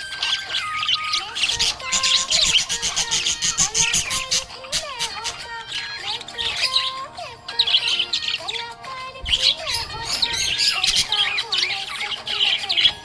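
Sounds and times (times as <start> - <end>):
budgerigar chattering: 0.0 - 13.0
music: 0.0 - 13.0.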